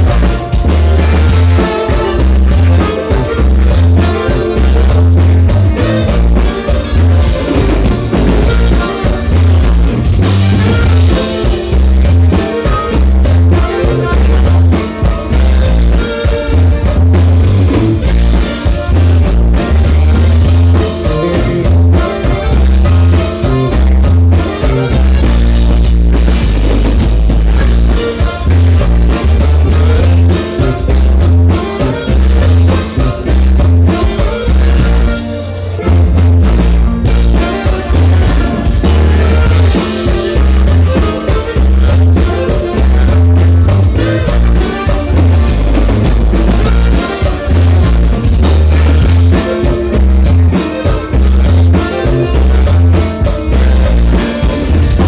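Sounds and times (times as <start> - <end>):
drums: 0.0 - 55.0
live dance band music: 0.0 - 55.0
pulsing bass line: 0.0 - 55.0.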